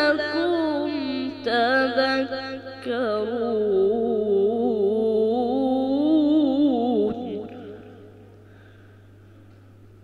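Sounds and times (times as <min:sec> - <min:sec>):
boy reciting melodically: 0:00.0 - 0:08.3.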